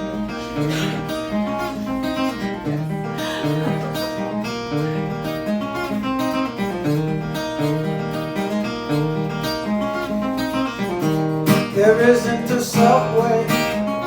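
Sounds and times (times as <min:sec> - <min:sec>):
acoustic guitar cross-picking: 0:00.0 - 0:14.0.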